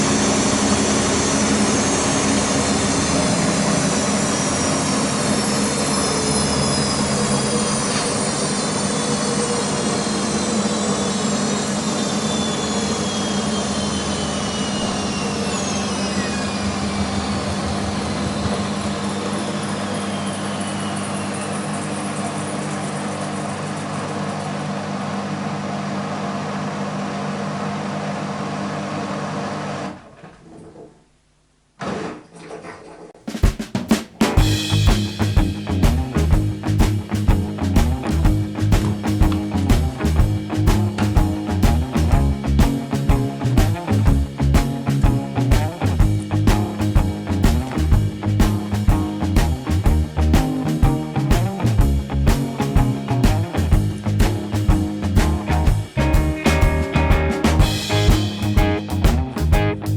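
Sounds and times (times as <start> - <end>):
washing machine spin winding down: 0.0 - 30.2, 34.4 - 59.9.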